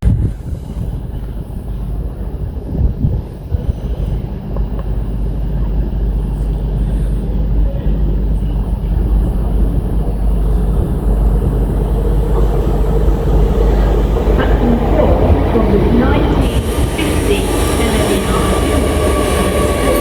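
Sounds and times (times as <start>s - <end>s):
rail noise: 0.0s - 20.0s
train rumbling: 0.0s - 20.0s.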